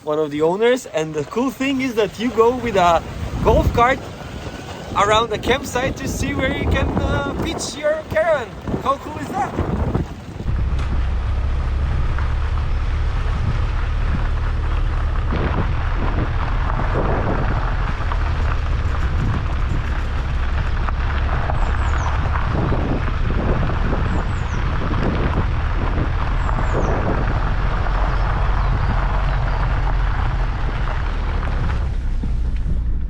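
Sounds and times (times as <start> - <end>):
golf cart rumbling: 0.0 - 33.0
wind noise on microphone: 1.0 - 33.0.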